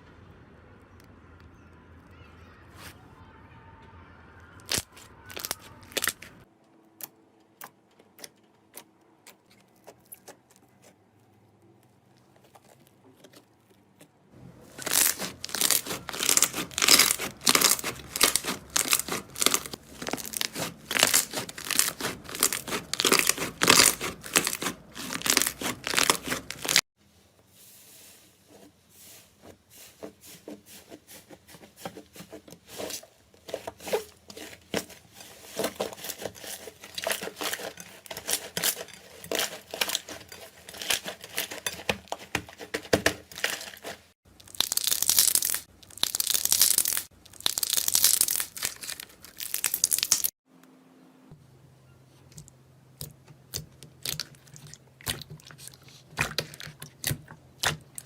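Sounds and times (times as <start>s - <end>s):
close crackling and crunching: 4.5s - 26.9s, 28.4s - 50.4s, 52.2s - 58.0s.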